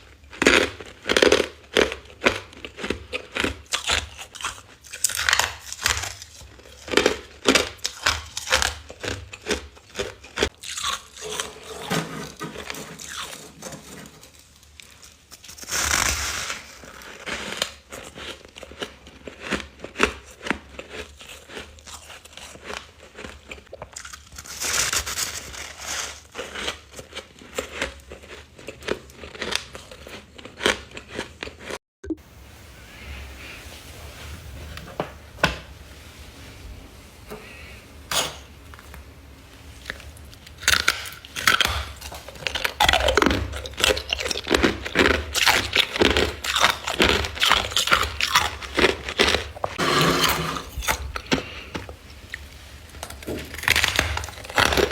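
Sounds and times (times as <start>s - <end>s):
chewing ice crunches: 0.0s - 31.8s, 39.8s - 54.9s.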